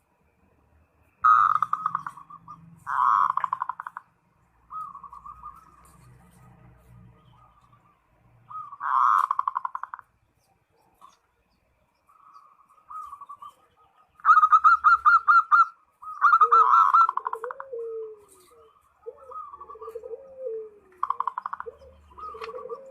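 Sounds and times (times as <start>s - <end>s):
dove cooing: 1.2s - 6.6s, 7.2s - 10.2s, 12.1s - 22.9s.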